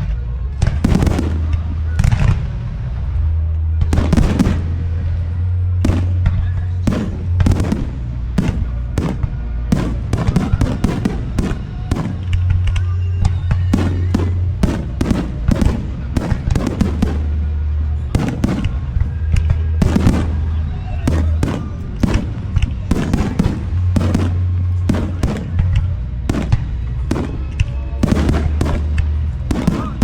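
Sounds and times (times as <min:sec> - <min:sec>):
music with low bass: 0:00.0 - 0:30.0
fireworks bursting: 0:00.6 - 0:30.0.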